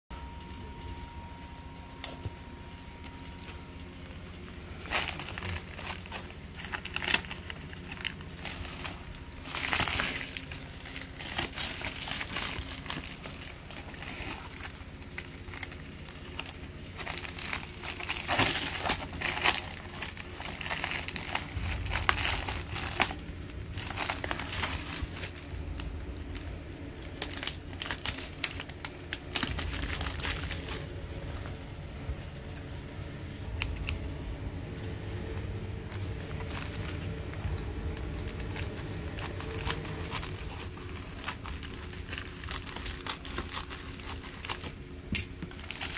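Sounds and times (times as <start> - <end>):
plastic mailer crinkling: 0.3 - 31.0, 35.2 - 45.9.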